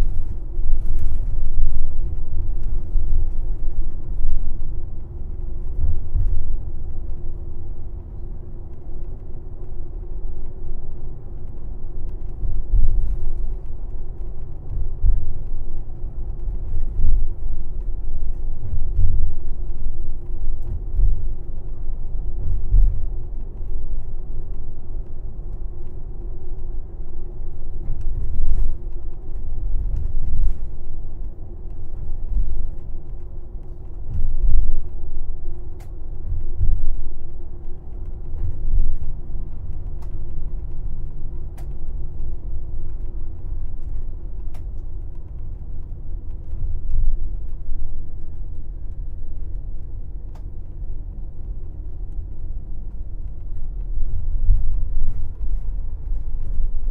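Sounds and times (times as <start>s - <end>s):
engine and road rumble: 0.0s - 56.9s.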